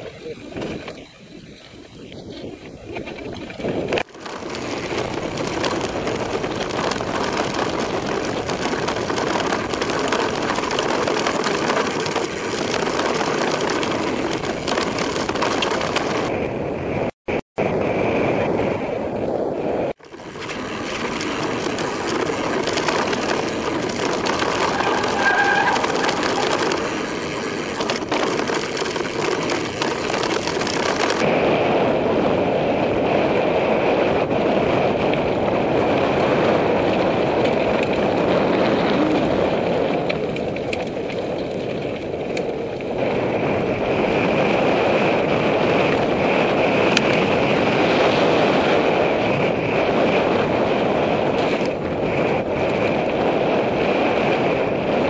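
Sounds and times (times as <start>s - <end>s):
bike tyre and rattle noise: 0.0s - 55.0s
wind rush on microphone: 0.0s - 55.0s.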